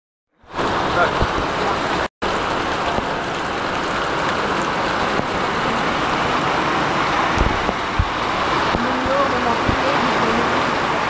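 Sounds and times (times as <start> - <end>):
car tyres swishing through water: 0.4 - 11.0
heavy rain on road: 0.5 - 11.0.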